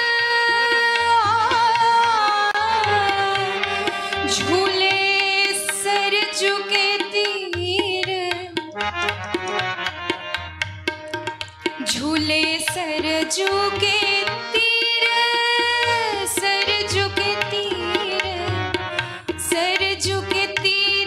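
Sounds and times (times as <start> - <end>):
person singing devotional song: 0.0 - 10.2, 11.4 - 21.0
tabla beat: 0.0 - 21.0.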